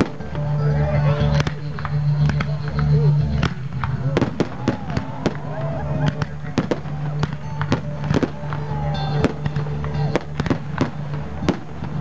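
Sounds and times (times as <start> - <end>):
fireworks bursting with sharp bangs: 0.0 - 0.5, 1.3 - 12.0.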